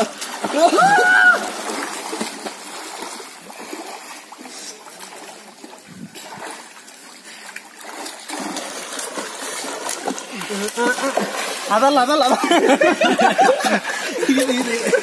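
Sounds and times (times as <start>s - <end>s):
swimmers splashing in pool: 0.0s - 15.0s.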